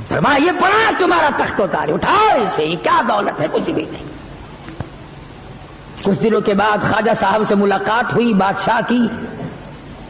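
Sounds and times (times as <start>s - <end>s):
recording hiss: 0.0s - 10.0s.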